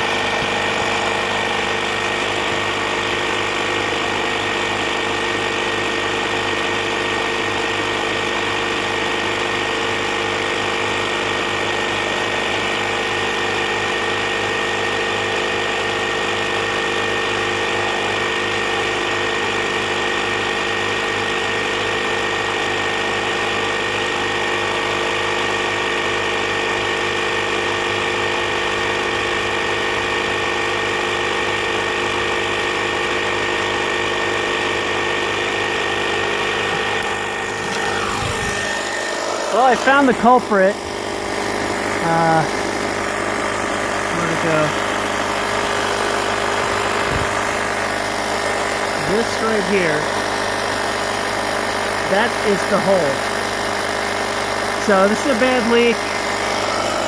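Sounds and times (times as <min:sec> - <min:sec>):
air compressor running: 0:00.0 - 0:57.0.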